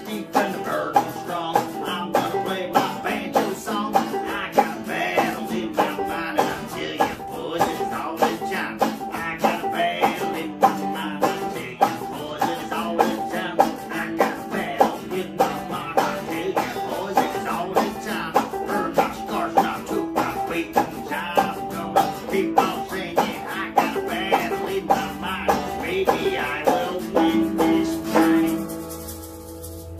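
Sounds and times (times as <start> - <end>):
banjo playing: 0.0 - 29.9
guitar strumming: 0.0 - 29.9.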